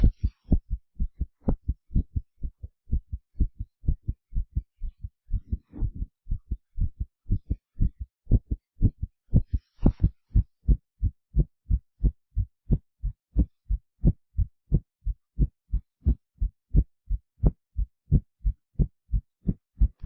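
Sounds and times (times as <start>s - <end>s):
heartbeat thumps: 0.0s - 20.0s.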